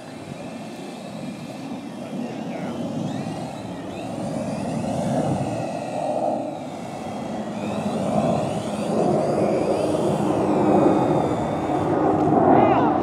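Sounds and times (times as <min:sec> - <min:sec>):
model airplane motor whine: 0:00.0 - 0:13.0
wind on microphone: 0:00.0 - 0:13.0.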